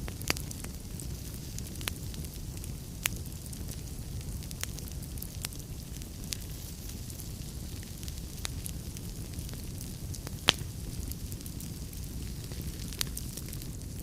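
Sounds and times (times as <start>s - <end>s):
log fire crackling: 0.0s - 14.0s.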